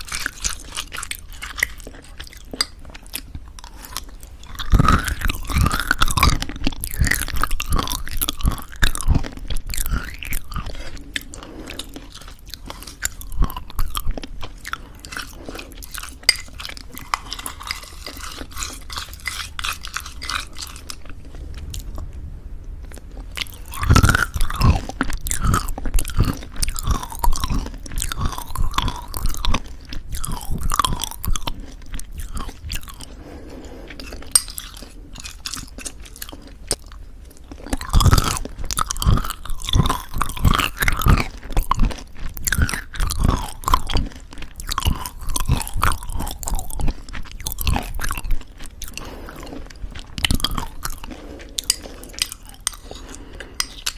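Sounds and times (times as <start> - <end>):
chewing crunchy granola: 0.0 - 22.2, 22.8 - 53.9.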